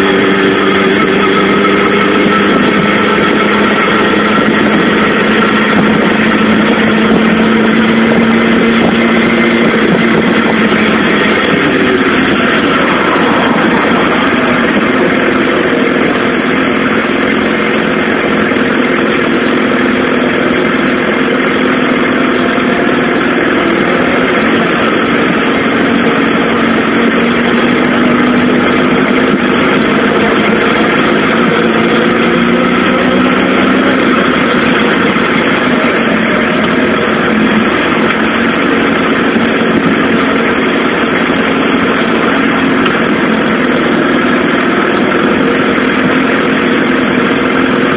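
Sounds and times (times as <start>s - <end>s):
motorcycle engine running: 0.0s - 47.9s
steady rushing noise: 0.0s - 47.9s.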